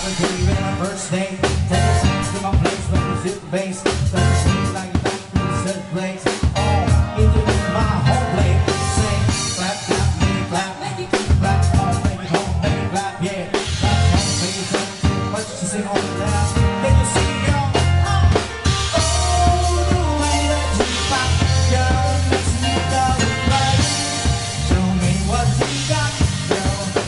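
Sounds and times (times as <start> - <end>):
drum beat: 0.0 - 3.4, 6.3 - 27.0
electronic keyboard: 0.0 - 27.0
heavy bass: 0.0 - 27.0
person singing: 0.0 - 27.0.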